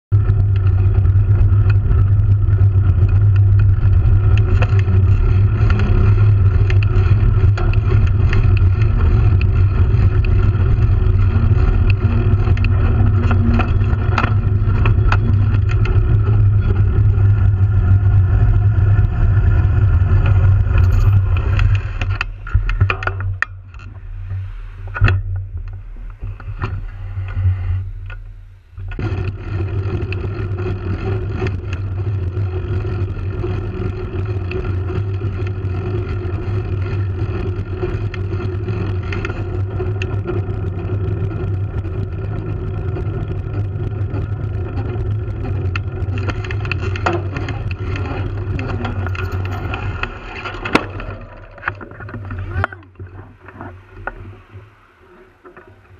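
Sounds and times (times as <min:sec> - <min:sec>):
bicycle riding hum and rumble: 0:00.0 - 0:55.9.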